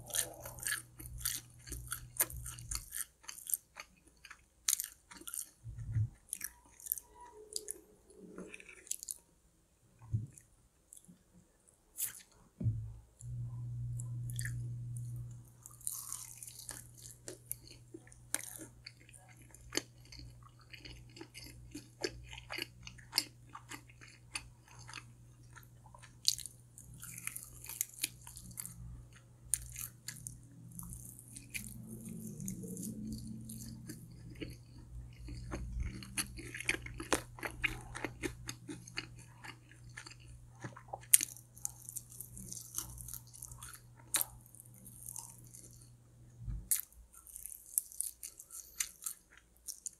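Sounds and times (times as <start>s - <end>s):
crunchy chewing: 0.0s - 9.2s, 15.6s - 45.9s, 46.6s - 49.9s.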